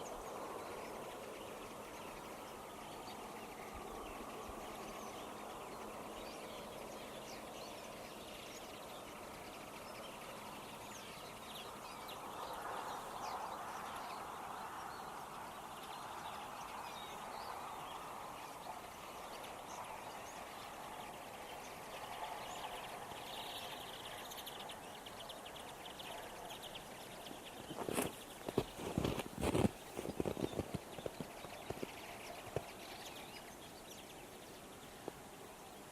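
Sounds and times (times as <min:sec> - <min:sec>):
birds chirping and twittering: 0:00.0 - 0:35.9
steady background noise: 0:00.0 - 0:35.9.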